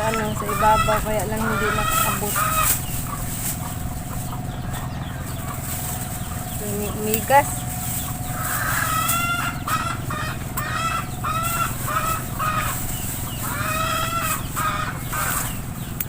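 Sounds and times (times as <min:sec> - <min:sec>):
chicken clucking: 0:00.0 - 0:16.0.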